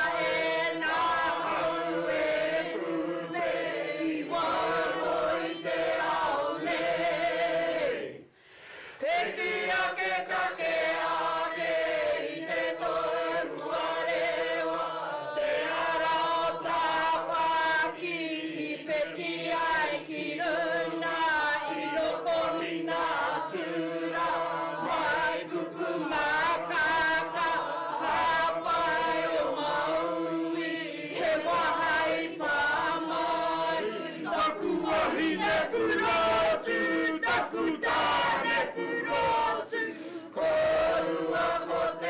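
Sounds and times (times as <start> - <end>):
group singing in unison: 0.0 - 42.0.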